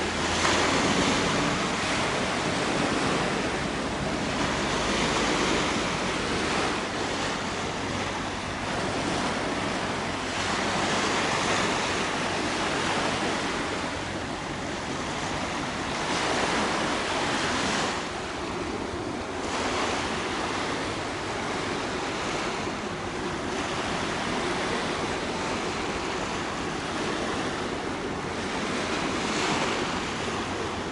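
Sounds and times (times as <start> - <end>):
choppy sea water: 0.0 - 30.9
wind on microphone: 0.0 - 30.9.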